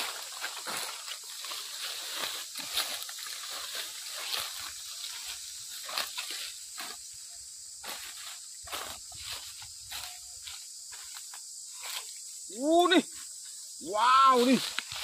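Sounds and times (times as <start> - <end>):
brushing through undergrowth: 0.0 - 15.0
footsteps crunching dry leaves: 0.0 - 15.0.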